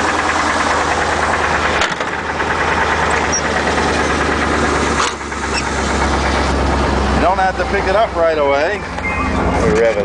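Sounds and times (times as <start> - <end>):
truck engine idling with knock: 0.0 - 10.0.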